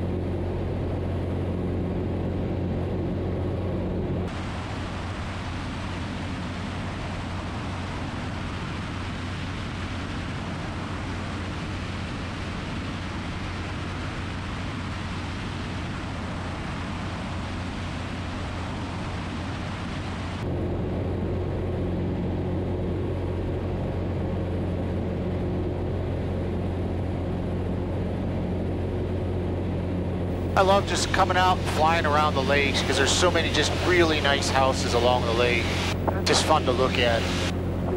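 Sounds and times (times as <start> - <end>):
aircraft engine and propeller drone: 0.0 - 37.9.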